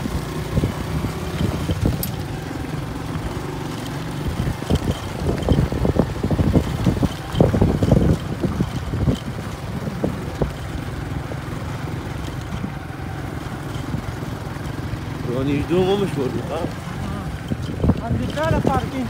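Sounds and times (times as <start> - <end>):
vehicle rumbling on road: 0.0 - 19.0.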